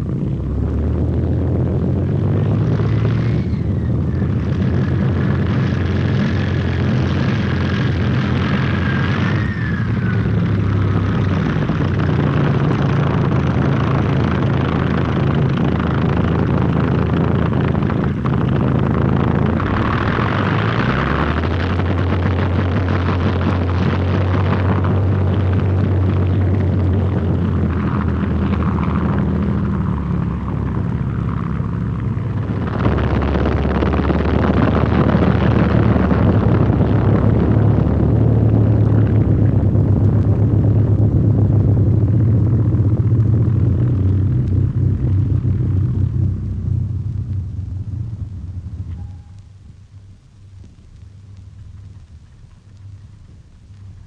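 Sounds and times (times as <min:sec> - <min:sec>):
propeller engines droning: 0:00.0 - 0:54.0
thin wavering whine: 0:00.0 - 0:54.0.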